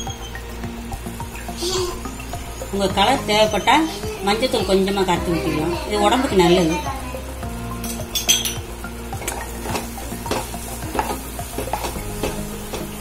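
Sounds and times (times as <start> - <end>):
soft sizzle: 0.0 - 13.0.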